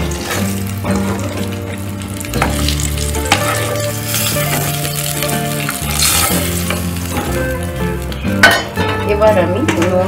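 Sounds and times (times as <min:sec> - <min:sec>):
vegetables sizzling in hot oil: 0:00.0 - 0:08.4.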